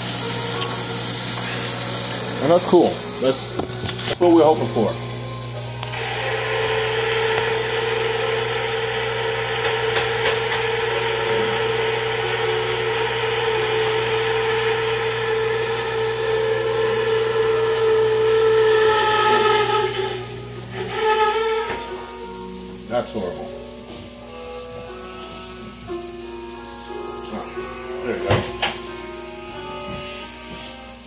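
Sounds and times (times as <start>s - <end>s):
range hood fan humming: 0.0s - 31.0s.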